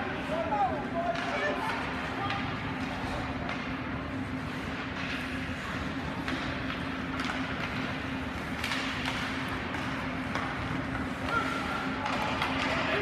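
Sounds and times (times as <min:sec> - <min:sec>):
steady low hum: 0:00.0 - 0:13.0
sticks puck and skates clicking: 0:01.0 - 0:13.0.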